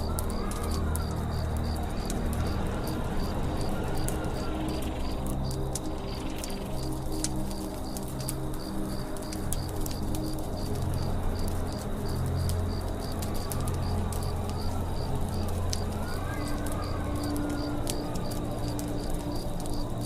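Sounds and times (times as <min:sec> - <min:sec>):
campfire crackling and popping: 0:00.0 - 0:20.0
insect chirping: 0:00.0 - 0:20.0.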